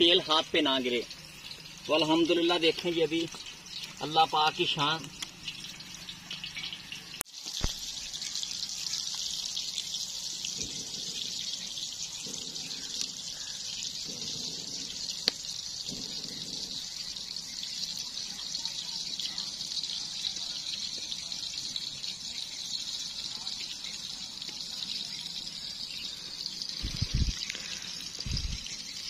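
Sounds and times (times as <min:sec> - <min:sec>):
hot oil sizzling: 0:00.0 - 0:29.0.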